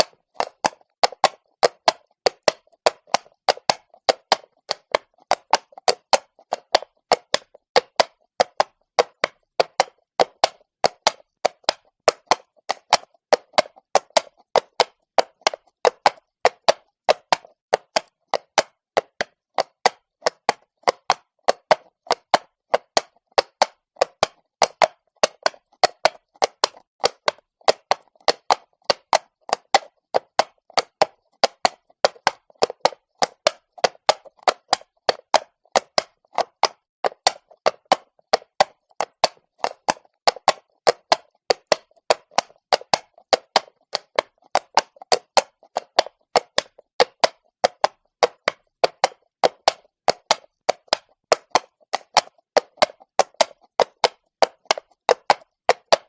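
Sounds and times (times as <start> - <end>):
horse hooves on cobblestones: 0.0 - 56.0.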